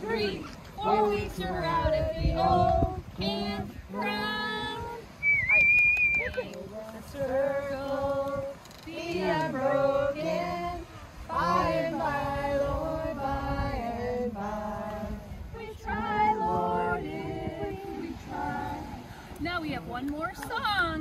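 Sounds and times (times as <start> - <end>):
women and children singing: 0.0 - 5.3, 6.2 - 19.5.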